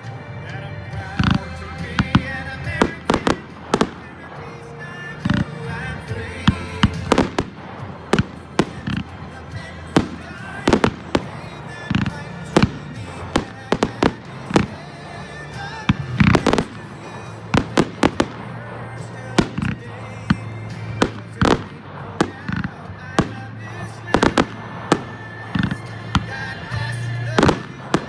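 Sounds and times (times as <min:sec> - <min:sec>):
music playing: 0:00.0 - 0:28.0
fireworks bangs: 0:01.0 - 0:28.0.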